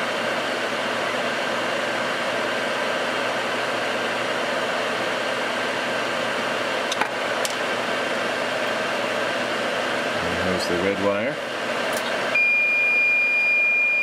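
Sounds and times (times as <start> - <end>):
extractor fan running: 0.0 - 14.0.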